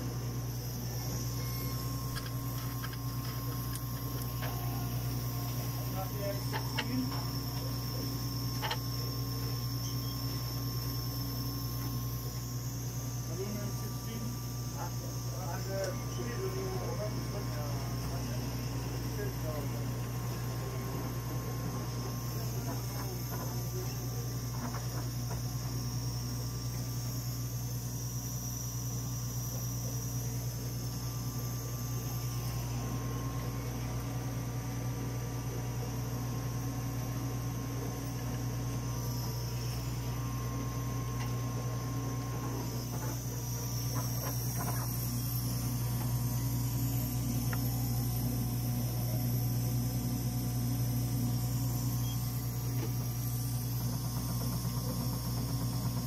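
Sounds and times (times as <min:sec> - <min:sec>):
analyzer fans humming and hissing: 0:00.0 - 0:56.0.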